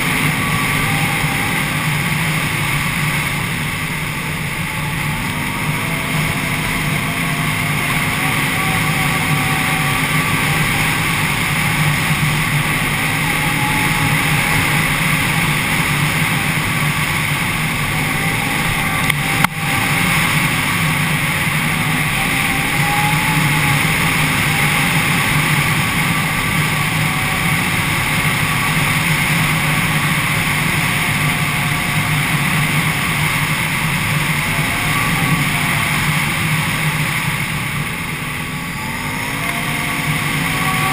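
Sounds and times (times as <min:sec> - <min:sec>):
atv engine running hard: 0:00.0 - 0:40.9.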